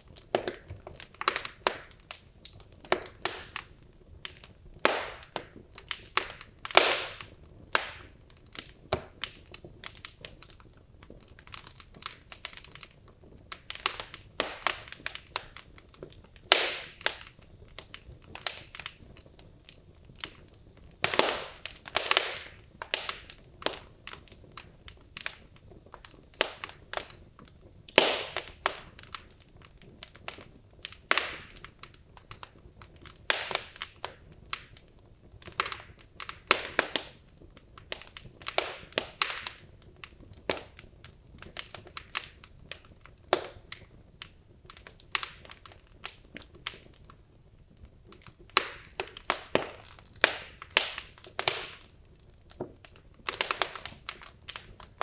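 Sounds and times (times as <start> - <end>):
faint low hiss: 0.0 - 55.0
wood logs crackling in fireplace: 0.0 - 55.0.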